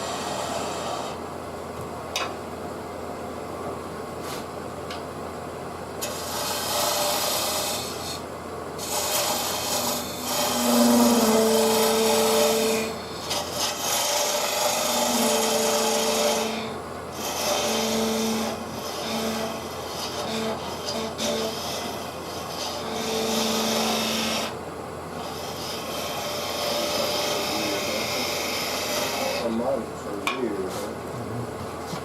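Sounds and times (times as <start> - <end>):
tool scraping wood on lathe: 0.0 - 1.2, 6.0 - 32.0.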